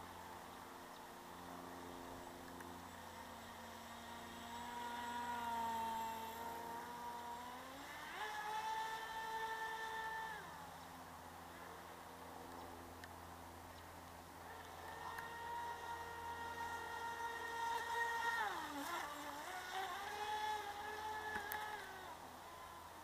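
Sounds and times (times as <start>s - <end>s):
model boat motor whining: 0.0s - 13.0s, 14.4s - 23.0s.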